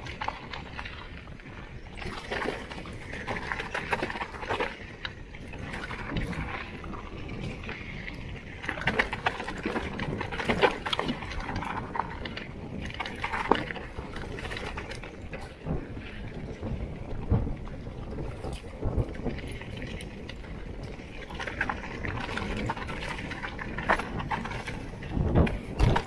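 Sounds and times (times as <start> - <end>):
bike knocking and rattling: 0.0 - 26.0
bike tyres rolling over stones: 0.0 - 26.0.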